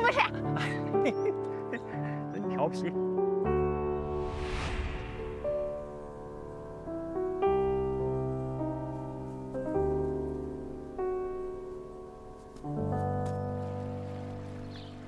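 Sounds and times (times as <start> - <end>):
slow gentle piano chords: 0.0 - 4.4, 5.1 - 15.0.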